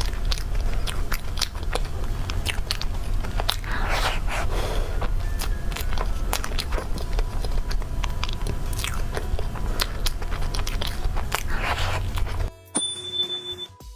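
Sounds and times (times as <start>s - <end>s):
crisp crunches: 0.0s - 12.5s
person chewing cake: 0.0s - 12.5s
steady low hum: 0.0s - 12.5s.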